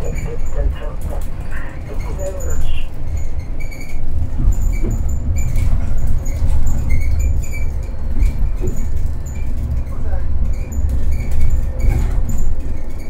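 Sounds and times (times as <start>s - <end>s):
bus rolling rumble: 0.0s - 13.0s.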